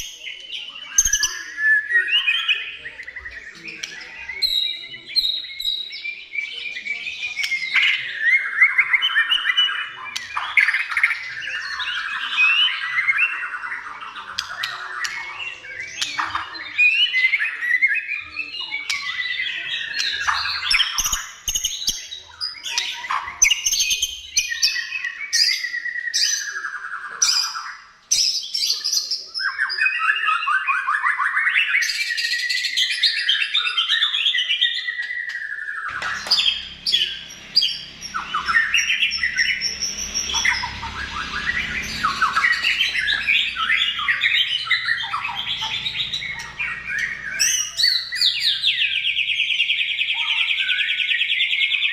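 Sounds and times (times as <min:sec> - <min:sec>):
bird singing whistled phrases: 0:00.0 - 0:51.9.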